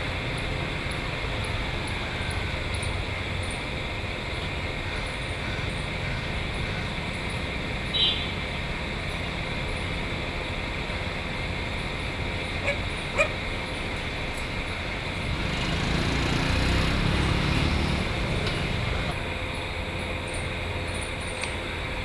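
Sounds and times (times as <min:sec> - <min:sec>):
low traffic rumble: 0:00.0 - 0:22.0.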